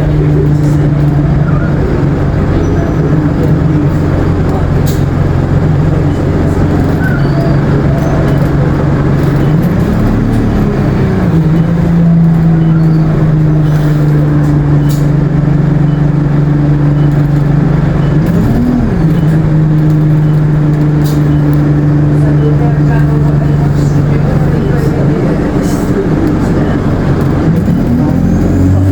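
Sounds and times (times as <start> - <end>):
bus engine drone: 0.0 - 28.9
turbo whine: 0.0 - 28.9.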